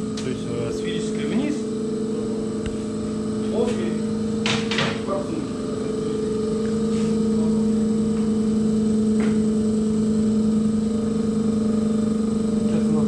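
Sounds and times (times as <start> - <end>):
test bench mechanical hum: 0.0 - 13.0.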